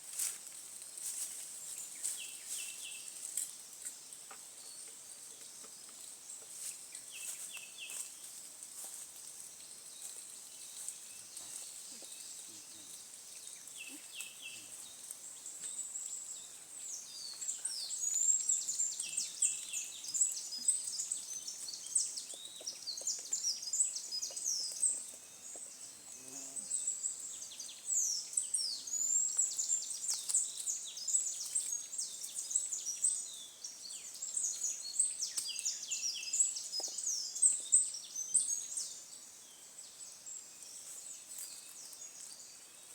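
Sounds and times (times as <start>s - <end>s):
small birds singing: 0.2s - 42.9s.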